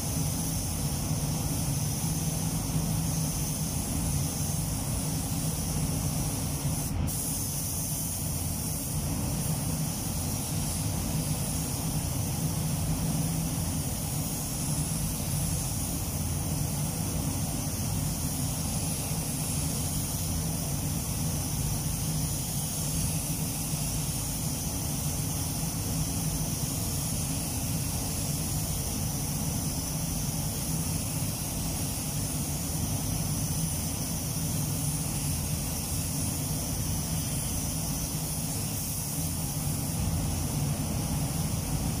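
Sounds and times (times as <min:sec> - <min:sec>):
spray gun hissing: 0:00.0 - 0:42.0
steady low hum: 0:00.0 - 0:42.0.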